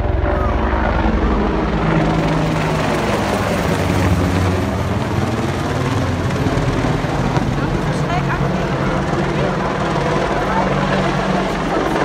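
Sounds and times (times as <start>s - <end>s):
helicopter rotor beat: 0.0s - 12.0s
turbine engine whine: 0.0s - 12.0s.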